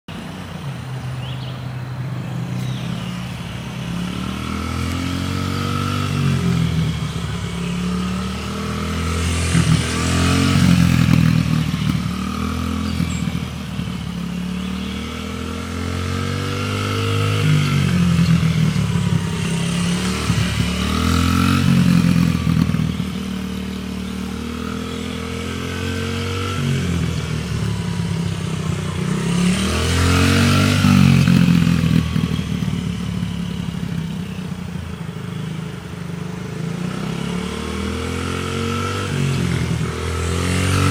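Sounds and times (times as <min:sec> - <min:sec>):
dirt bike engine revving: 0:02.6 - 0:34.3, 0:36.4 - 0:40.9.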